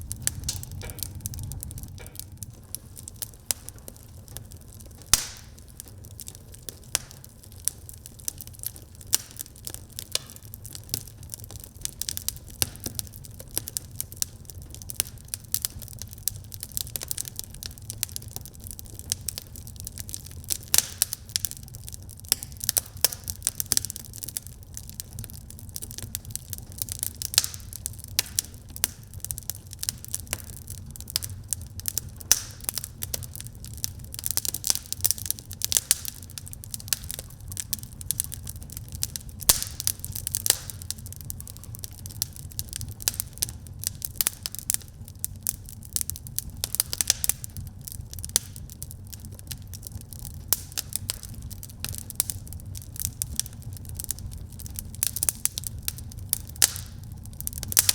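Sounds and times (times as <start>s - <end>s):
low rumble of flames: 0.0s - 57.9s
wood fire crackling and popping: 0.0s - 57.9s.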